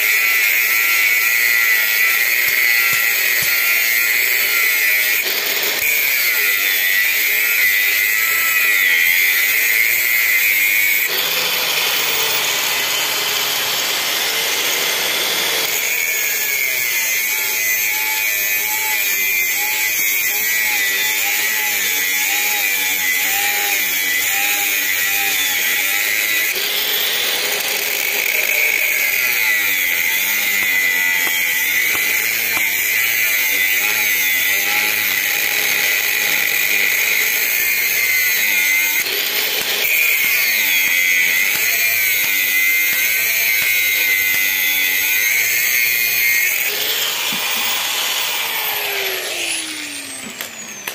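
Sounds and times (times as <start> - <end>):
angle grinder cutting metal: 0.0 - 50.9.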